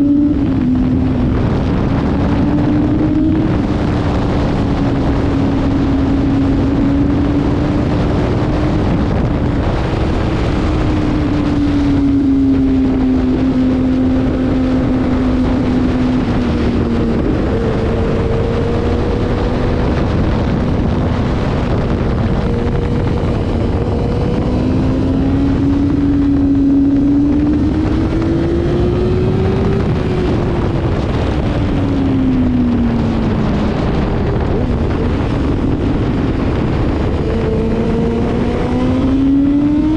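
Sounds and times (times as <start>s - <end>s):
motorcycle engine at speed: 0.0s - 39.9s
wind rush on microphone: 0.0s - 39.9s.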